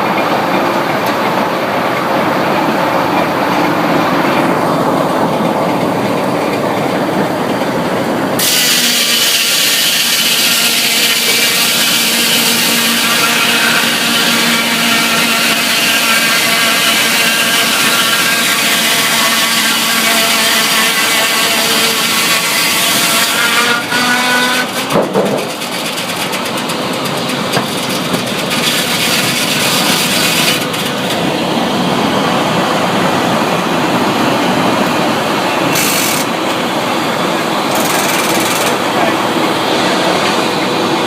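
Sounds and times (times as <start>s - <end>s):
sawmill machinery drone: 0.0s - 41.0s.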